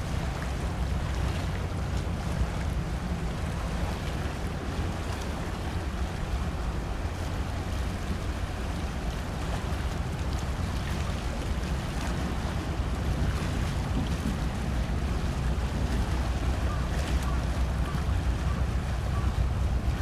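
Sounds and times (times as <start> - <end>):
ship engine deep rumble: 0.0 - 20.0
water wash: 0.0 - 20.0.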